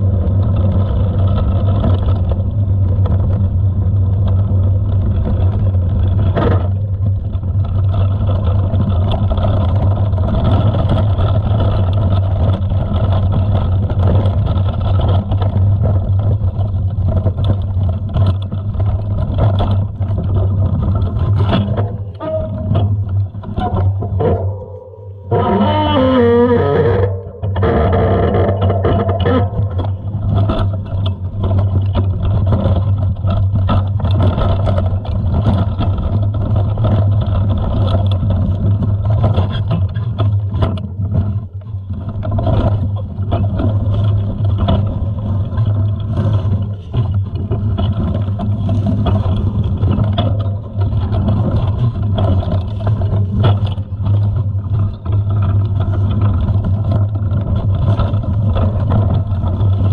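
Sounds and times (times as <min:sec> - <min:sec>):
bike rattling over bumps: 0:00.0 - 0:59.9
wind rumble on microphone: 0:00.0 - 0:59.9.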